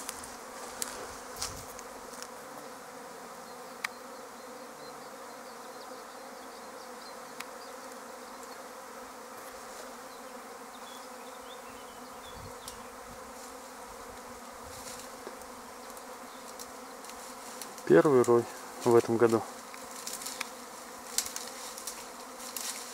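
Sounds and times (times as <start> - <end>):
swarm of honeybees humming: 0.0 - 22.9.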